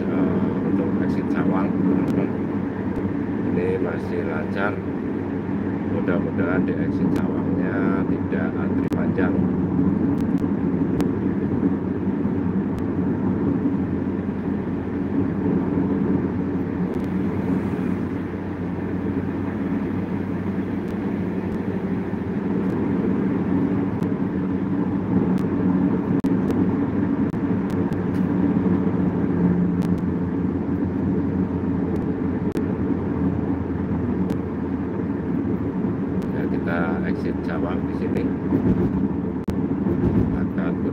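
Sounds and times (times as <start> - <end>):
car cabin road and engine noise: 0.0 - 40.9.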